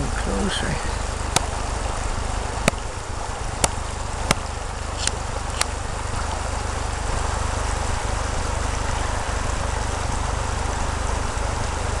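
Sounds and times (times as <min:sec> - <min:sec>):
low rumble: 0:00.0 - 0:12.0
river water running over gravel: 0:00.0 - 0:12.0.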